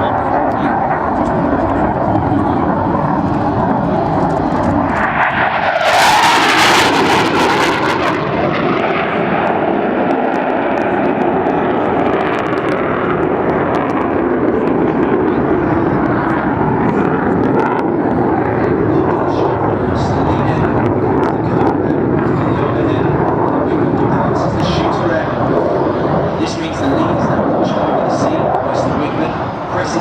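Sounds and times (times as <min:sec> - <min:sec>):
jet passing overhead: 0:00.0 - 0:30.0.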